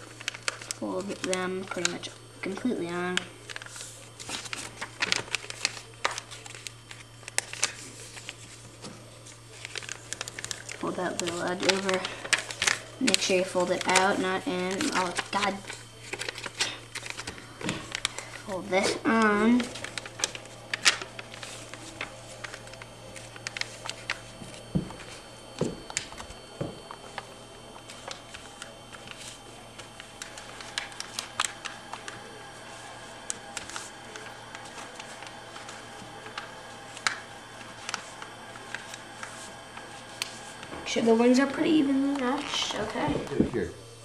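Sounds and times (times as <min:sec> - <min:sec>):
paper rustling and creasing: 0:00.0 - 0:43.7
steady low hum: 0:00.0 - 0:44.0.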